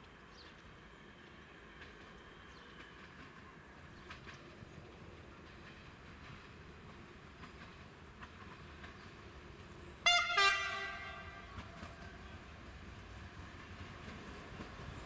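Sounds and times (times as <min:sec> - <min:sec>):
faint rumble of approaching train: 0:00.0 - 0:15.0.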